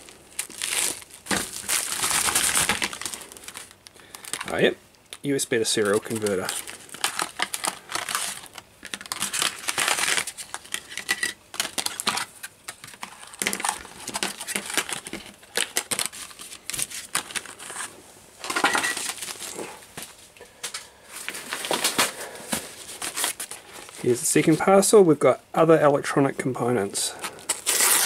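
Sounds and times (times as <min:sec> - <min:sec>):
plastic packaging crinkling: 0:00.0 - 0:20.2, 0:21.2 - 0:24.6, 0:27.1 - 0:28.0.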